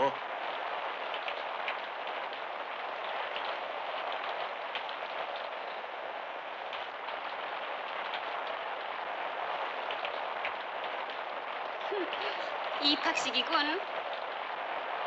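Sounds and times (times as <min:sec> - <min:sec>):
rain drop ticks: 0:00.0 - 0:15.0
steady rain hiss: 0:00.0 - 0:15.0.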